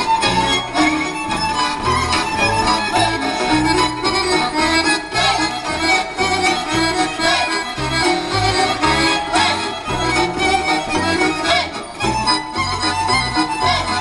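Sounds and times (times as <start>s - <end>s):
fiddle and accordion dance tune: 0.0s - 14.0s.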